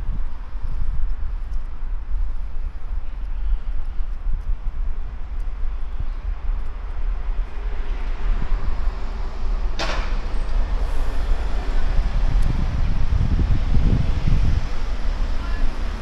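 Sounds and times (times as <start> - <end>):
road traffic: 0.0 - 16.0
wind on microphone: 0.0 - 16.0.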